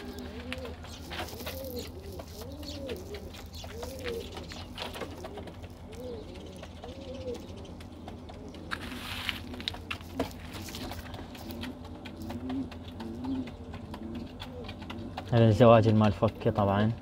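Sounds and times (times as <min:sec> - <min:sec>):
pigeons cooing: 0:00.0 - 0:17.0
steady low hum: 0:00.0 - 0:17.0.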